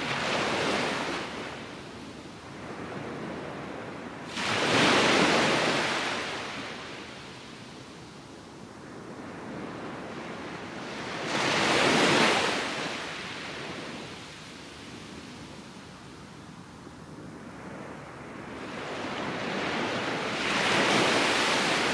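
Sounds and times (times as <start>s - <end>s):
waves breaking on beach: 0.0s - 8.2s, 9.4s - 16.6s, 17.4s - 21.9s.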